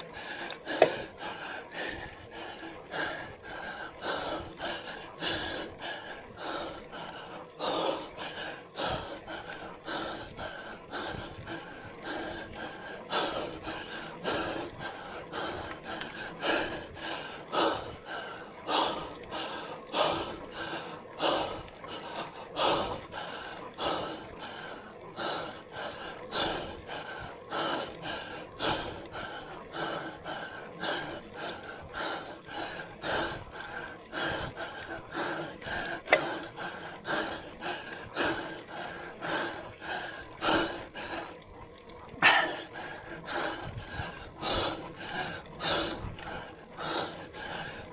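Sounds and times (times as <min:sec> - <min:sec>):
person breathing hard: 0:00.0 - 0:41.4, 0:42.2 - 0:47.9.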